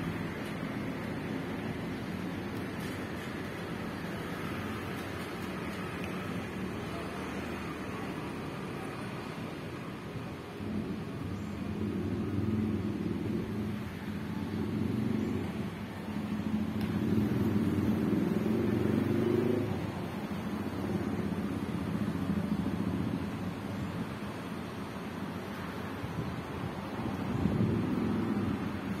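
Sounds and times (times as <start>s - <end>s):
vehicle engines passing: 0.0s - 29.0s.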